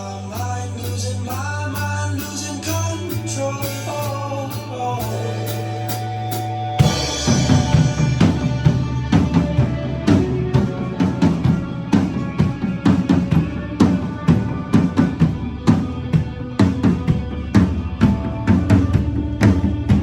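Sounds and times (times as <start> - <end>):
drum kit playing a beat: 0.0 - 20.0
recorded rock song: 0.0 - 20.0.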